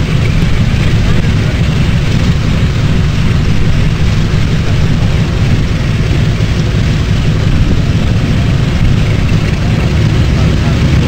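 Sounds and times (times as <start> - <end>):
twin radial engines idling: 0.0 - 11.0.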